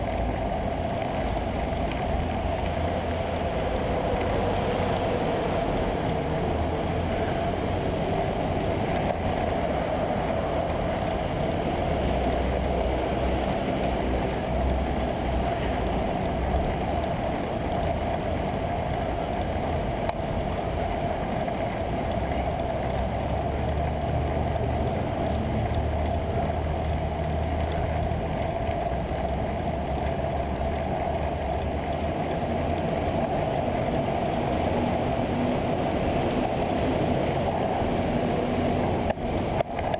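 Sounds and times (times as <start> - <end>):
muffled wind rumble: 0.0 - 39.9
traffic: 0.0 - 39.9.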